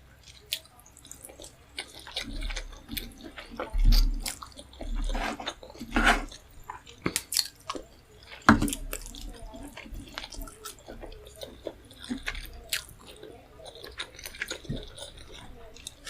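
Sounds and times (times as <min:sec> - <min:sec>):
wet mouth eating sounds: 0:00.0 - 0:16.0.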